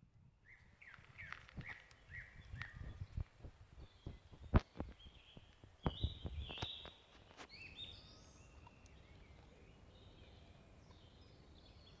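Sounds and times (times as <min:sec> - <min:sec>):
songbirds singing: 0:00.3 - 0:12.0.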